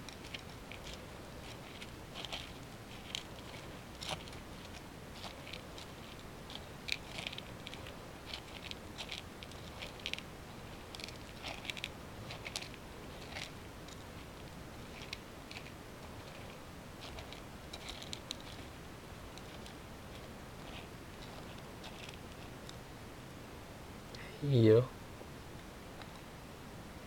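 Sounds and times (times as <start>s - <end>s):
cat chewing food: 0.0s - 22.9s.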